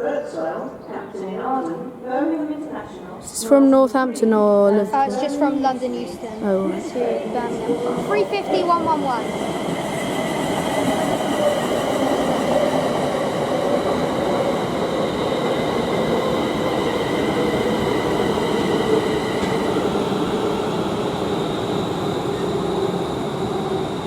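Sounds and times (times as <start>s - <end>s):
electric train whine: 4.4s - 24.0s
train rolling noise: 4.4s - 24.0s.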